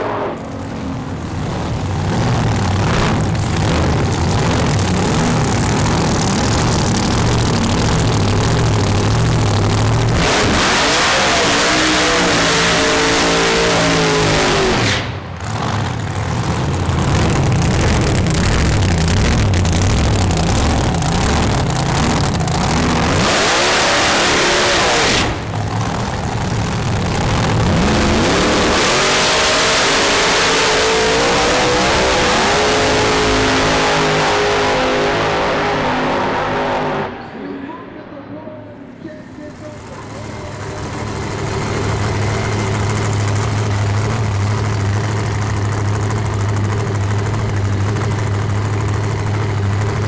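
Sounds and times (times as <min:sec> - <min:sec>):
drag racing car engines revving: 0:00.0 - 0:50.0.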